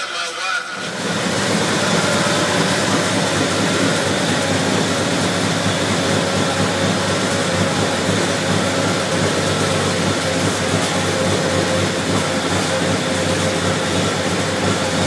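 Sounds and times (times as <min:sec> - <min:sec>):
pickup engine idling: 0:00.8 - 0:15.0.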